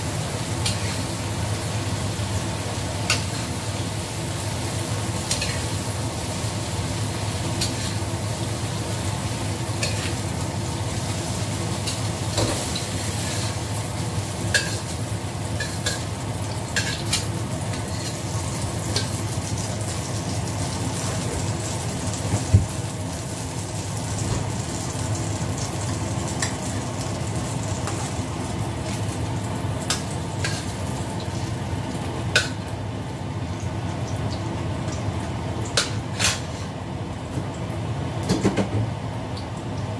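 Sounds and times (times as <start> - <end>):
oil sizzling in a wok: 0.0 - 39.9.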